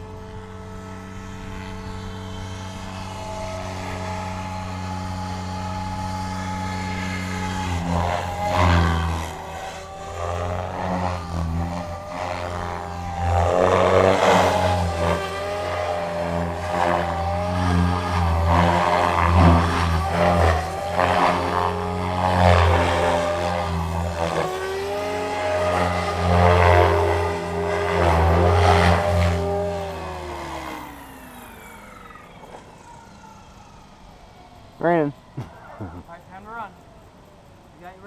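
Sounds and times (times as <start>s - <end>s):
motor and tail-rotor whine: 0.0s - 38.0s
rotor buzz: 0.0s - 38.0s.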